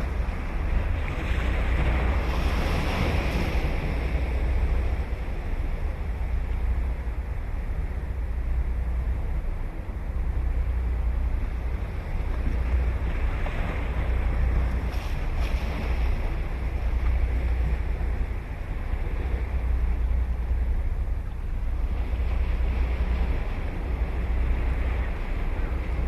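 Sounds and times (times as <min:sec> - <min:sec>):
ocean surf breaking: 0:00.0 - 0:21.1
wind rumbling on microphone: 0:00.0 - 0:26.0.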